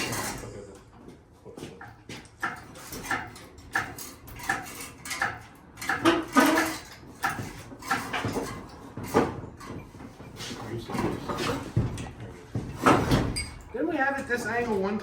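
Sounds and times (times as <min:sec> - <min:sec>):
metal clanking on metal: 0:00.0 - 0:00.7, 0:01.8 - 0:14.8.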